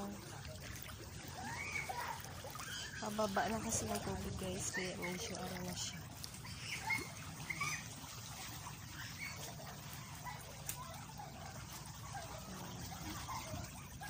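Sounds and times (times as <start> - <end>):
small drip-like plinks: 0.0 - 14.0
water trickling among rocks: 0.0 - 14.0.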